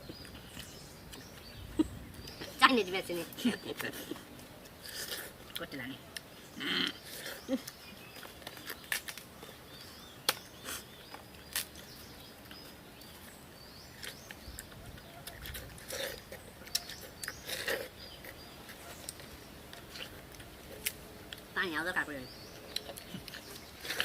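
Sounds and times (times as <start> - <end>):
people biting watermelon: 0.0 - 21.5, 22.3 - 24.0
faint birds chirping: 0.0 - 24.0.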